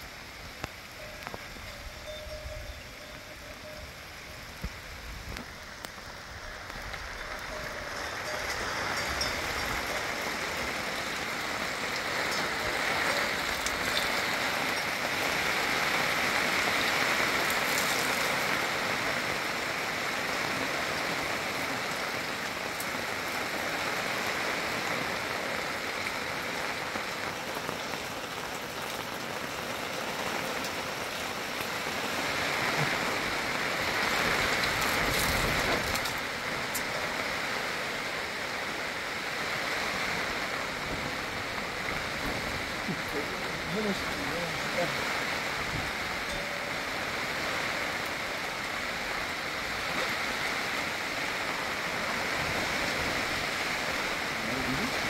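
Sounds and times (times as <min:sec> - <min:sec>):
rain on a plastic sheet roof: 0:00.0 - 0:55.0.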